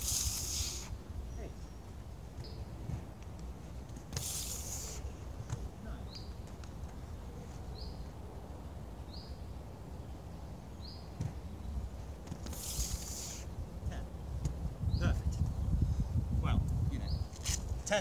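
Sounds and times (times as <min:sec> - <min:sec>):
bird chirping: 0:00.0 - 0:02.8, 0:04.2 - 0:16.0, 0:16.9 - 0:17.4.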